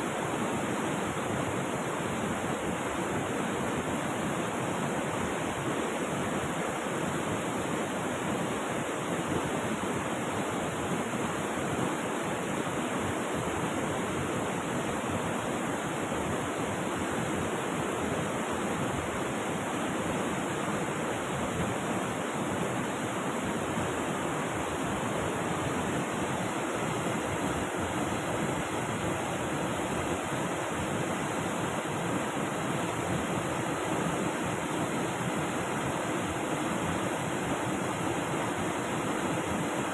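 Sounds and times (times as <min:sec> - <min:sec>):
river water rushing: 0:00.1 - 0:39.9.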